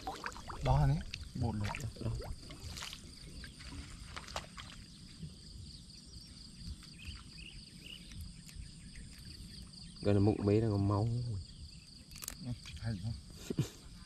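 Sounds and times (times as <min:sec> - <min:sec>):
insects chirring high: 0:00.0 - 0:14.0.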